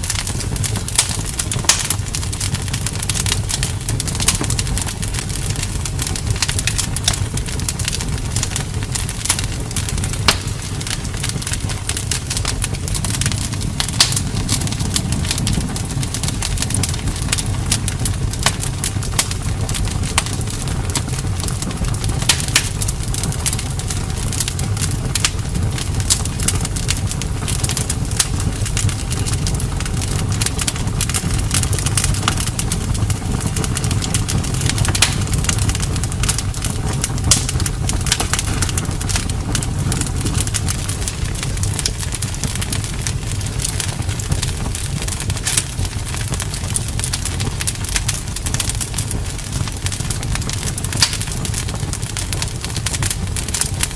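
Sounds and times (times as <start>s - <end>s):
low rumble of flames: 0.0s - 53.9s
wood crackling and popping: 0.0s - 53.9s.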